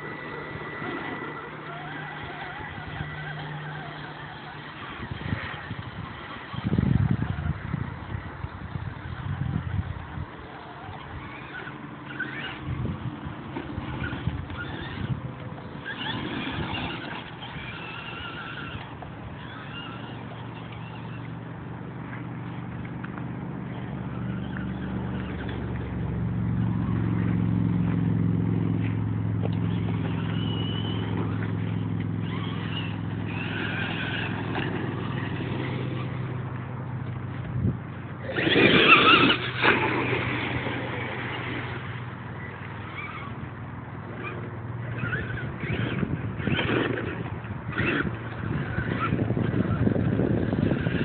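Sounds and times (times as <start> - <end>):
electric toy truck motor hum: 0.0 - 28.0, 28.7 - 51.0.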